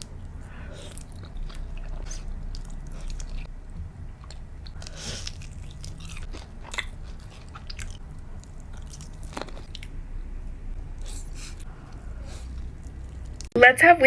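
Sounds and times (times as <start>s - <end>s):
wet mouth sounds: 0.0s - 10.0s, 10.7s - 13.5s
food crunching: 0.0s - 13.5s
person chewing food: 0.0s - 13.5s
low steady hum: 0.0s - 14.0s.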